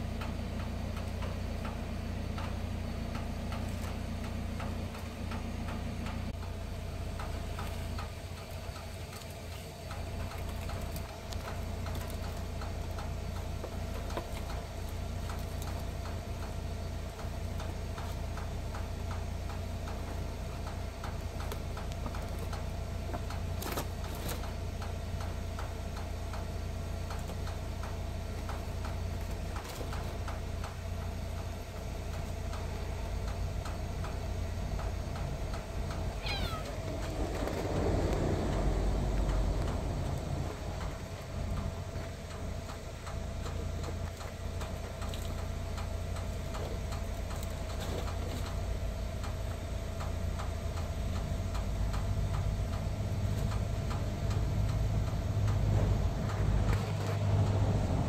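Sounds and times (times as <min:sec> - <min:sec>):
regular ticking: 0:00.0 - 0:56.7
machine humming: 0:00.0 - 0:58.0.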